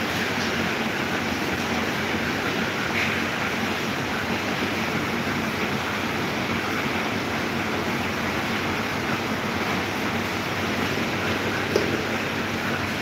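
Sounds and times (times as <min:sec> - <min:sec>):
desk fan whirring: 0:00.0 - 0:13.0.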